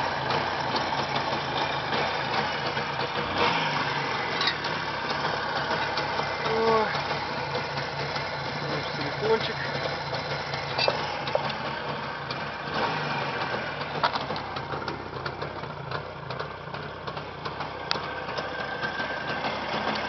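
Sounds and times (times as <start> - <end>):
two-stroke motorcycle engine idling: 0.0 - 20.0.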